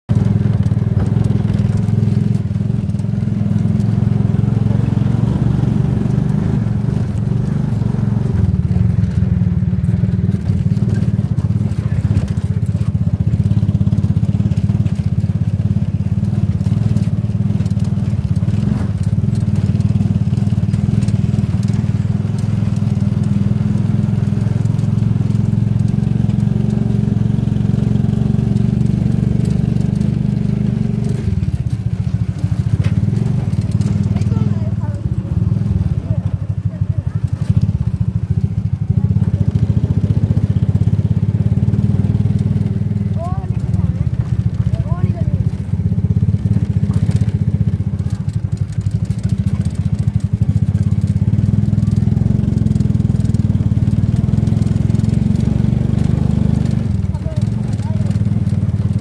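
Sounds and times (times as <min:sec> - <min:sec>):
road noise: 0:00.1 - 0:59.0
vehicle engine drone: 0:00.1 - 0:59.0.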